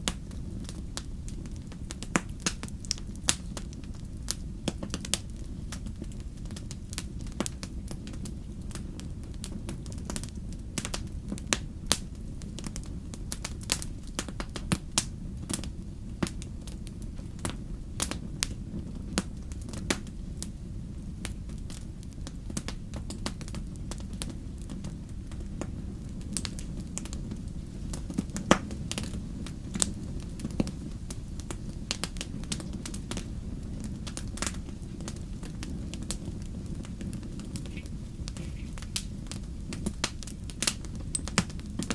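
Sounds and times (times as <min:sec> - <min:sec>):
campfire crackling: 0:00.0 - 0:41.9
low rumble of burning: 0:00.0 - 0:41.9.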